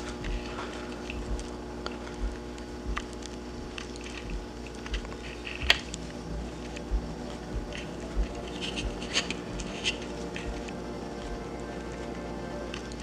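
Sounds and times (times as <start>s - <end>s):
footsteps on carpet: 0.0s - 11.4s
fluorescent light electrical hum: 0.0s - 13.0s.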